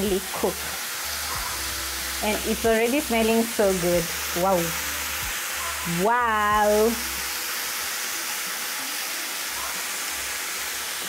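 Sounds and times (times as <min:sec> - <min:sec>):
chicken sizzling on grill pan: 0:00.0 - 0:11.0.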